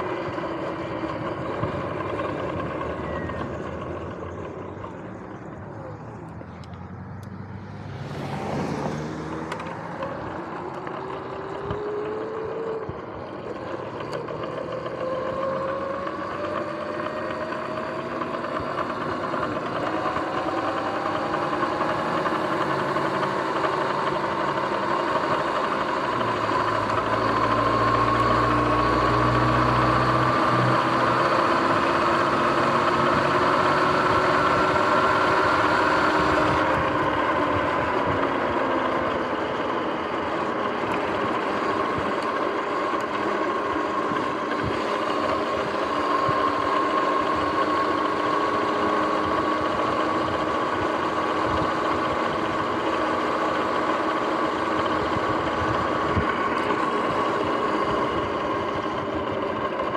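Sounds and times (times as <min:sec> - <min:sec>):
electric motor whine: 0:00.0 - 0:59.9.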